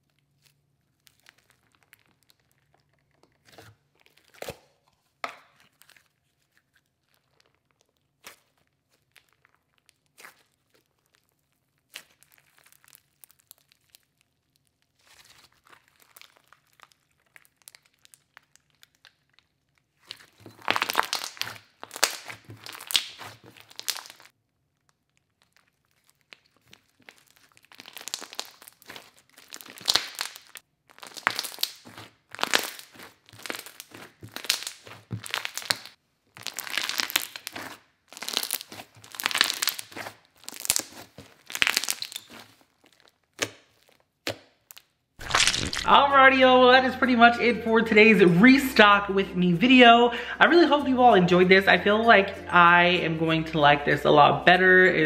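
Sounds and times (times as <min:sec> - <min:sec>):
slime squished by hand: 0:00.0 - 0:46.0.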